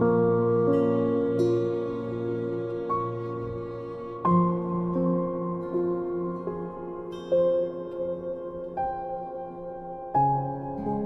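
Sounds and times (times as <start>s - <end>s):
slow gentle background music: 0.0s - 11.0s.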